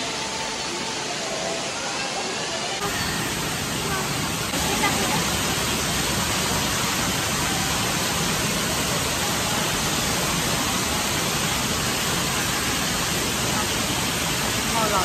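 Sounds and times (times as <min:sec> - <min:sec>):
water rushing from fountains: 0:00.0 - 0:15.0.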